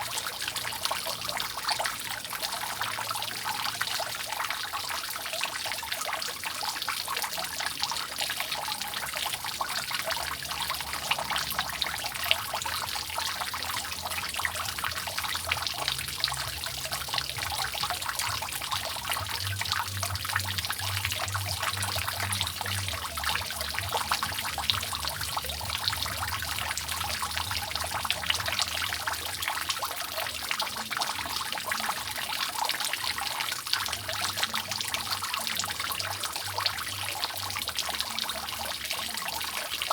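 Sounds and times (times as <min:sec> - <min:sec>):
water dripping and trickling: 0:00.0 - 0:39.9.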